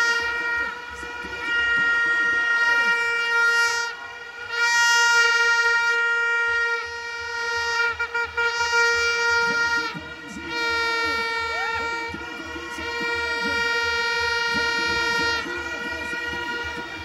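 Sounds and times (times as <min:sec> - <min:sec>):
crowd murmur: 0:00.0 - 0:17.0
handheld horn blasts: 0:00.0 - 0:17.0.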